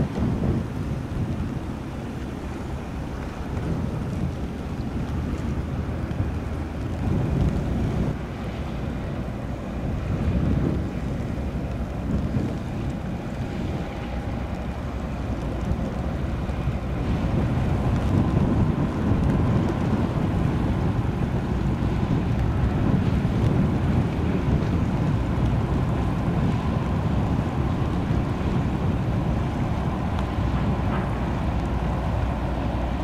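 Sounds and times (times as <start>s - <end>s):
boat engine rumble: 0.0s - 33.0s
wind buffeting microphone: 0.0s - 33.0s.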